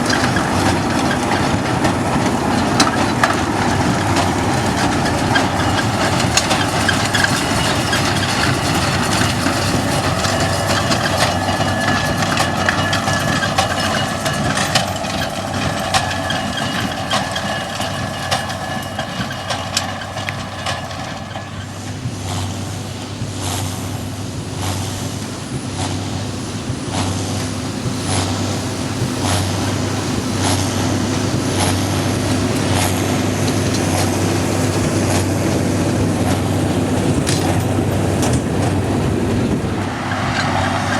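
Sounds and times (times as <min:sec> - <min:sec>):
heavy vehicle humming: 0:00.0 - 0:40.9.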